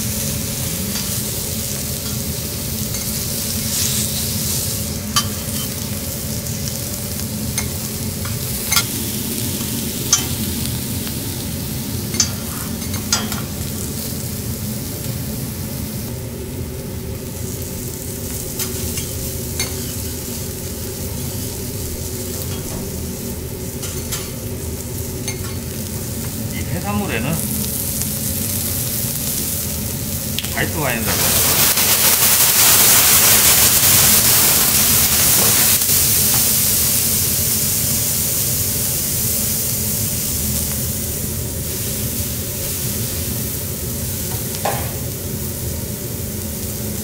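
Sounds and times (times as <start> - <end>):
food sizzling in butter on a griddle: 0.0 - 47.0.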